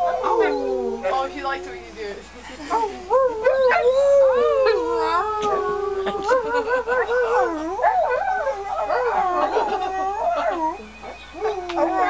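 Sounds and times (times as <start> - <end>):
dog howling: 0.0 - 1.8, 3.1 - 12.0.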